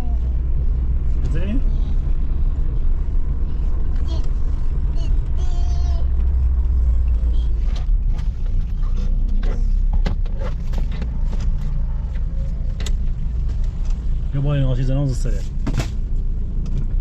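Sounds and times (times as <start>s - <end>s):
car rumbling in motion: 0.0s - 17.0s.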